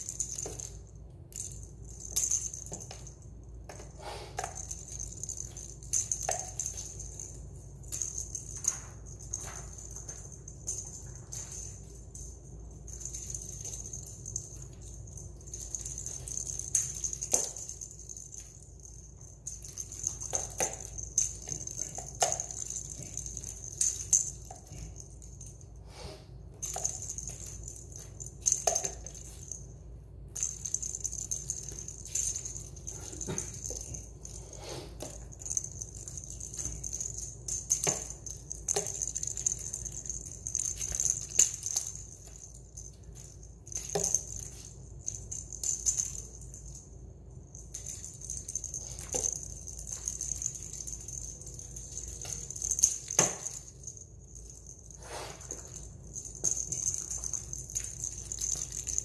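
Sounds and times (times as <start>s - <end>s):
toy ball rattling on tiles: 0.0s - 25.7s, 26.6s - 29.7s, 30.3s - 59.0s.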